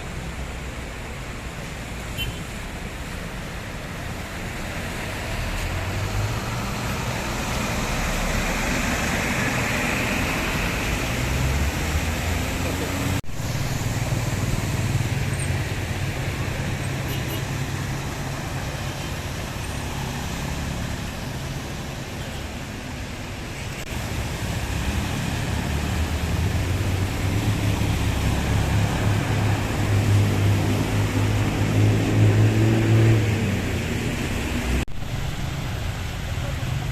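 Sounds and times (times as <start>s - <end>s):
vehicles passing: 0.0s - 36.9s.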